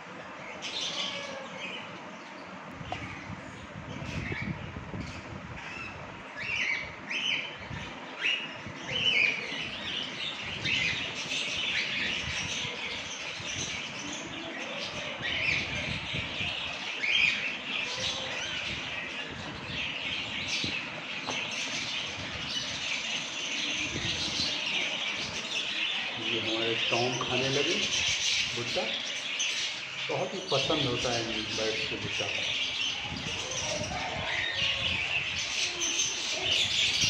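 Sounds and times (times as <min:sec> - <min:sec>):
parrots chirping and squawking: 0:00.2 - 0:37.0.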